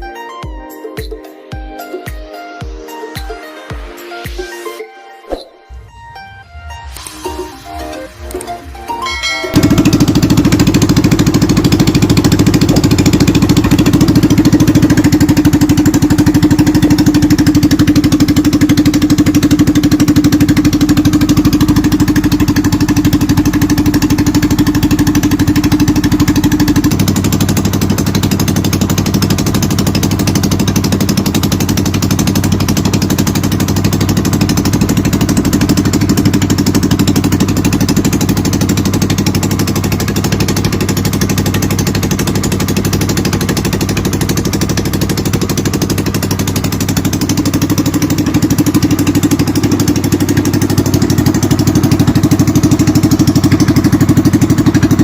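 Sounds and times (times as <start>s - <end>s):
small boat engine pulsing: 5.7s - 55.0s.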